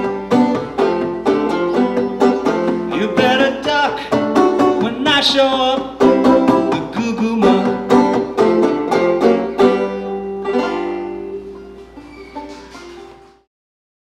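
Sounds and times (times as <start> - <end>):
banjo playing: 0.0 - 13.5.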